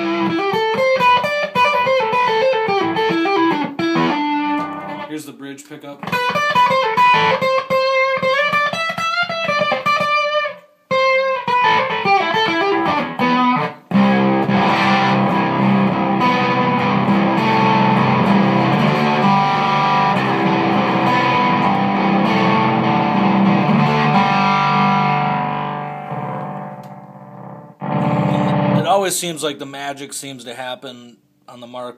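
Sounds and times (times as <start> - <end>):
fuzzy sustained guitar chords: 0.0 - 5.1, 6.1 - 28.9
fuzz electric guitar riff: 0.0 - 5.2, 6.0 - 29.5.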